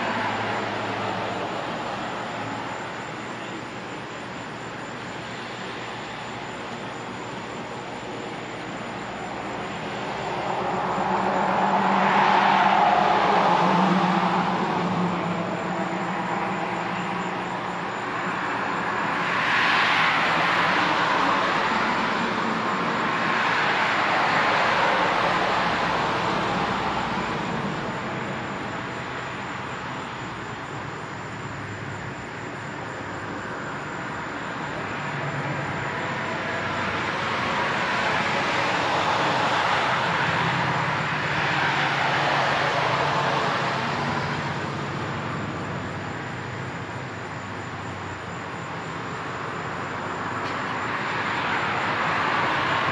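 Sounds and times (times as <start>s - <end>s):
cars driving past: 0.0s - 52.9s.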